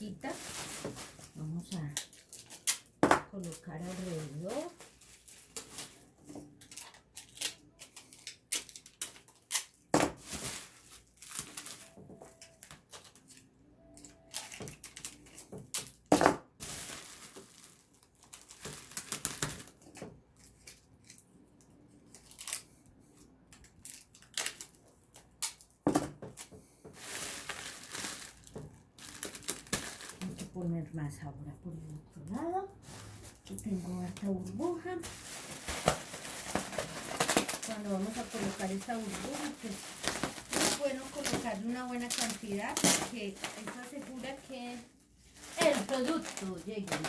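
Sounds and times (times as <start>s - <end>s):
bubble wrap crinkling: 0.0s - 31.0s, 31.7s - 47.0s
packing tape ripping off roll: 0.3s - 21.2s, 23.6s - 25.7s, 26.3s - 30.5s, 34.2s - 44.8s, 45.4s - 47.0s.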